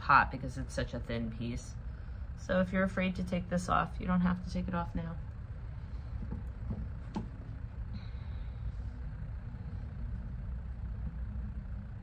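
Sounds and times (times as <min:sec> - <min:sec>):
potter's wheel motor humming: 0:00.0 - 0:12.0.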